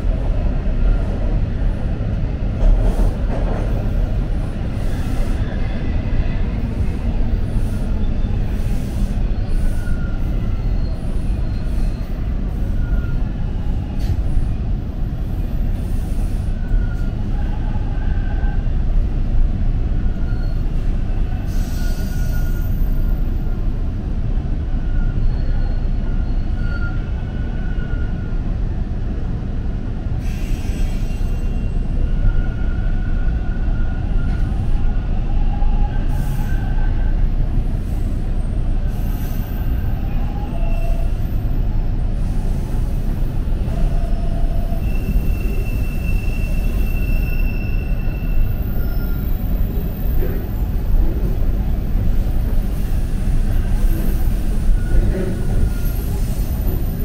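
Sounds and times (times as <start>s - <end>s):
subway wheels rumbling on track: 0.0s - 57.0s
wheels squealing on rails: 0.8s - 19.1s, 19.9s - 28.6s, 30.2s - 57.0s.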